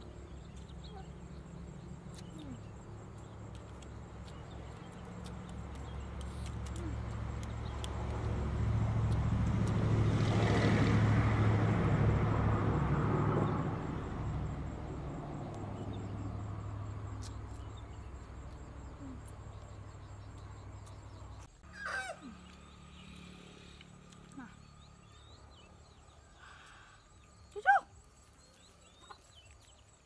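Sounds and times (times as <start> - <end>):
passing vehicle engine hum: 0.0 - 27.5.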